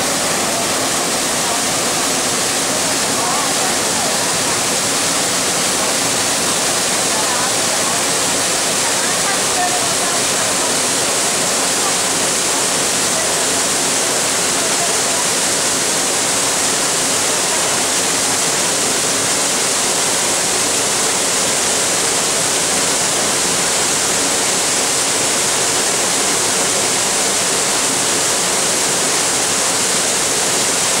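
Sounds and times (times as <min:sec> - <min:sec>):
waterfall rushing into rock pool: 0:00.0 - 0:31.0.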